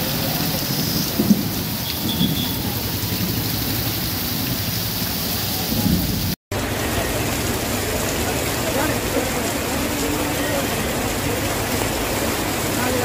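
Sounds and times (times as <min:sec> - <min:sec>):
heavy rain on street: 0:00.0 - 0:13.0.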